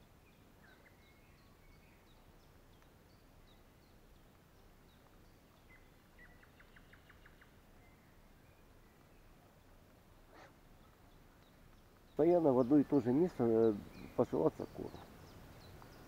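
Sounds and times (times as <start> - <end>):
faint birdsong: 0.0 - 16.0
outdoor background noise: 0.0 - 16.0.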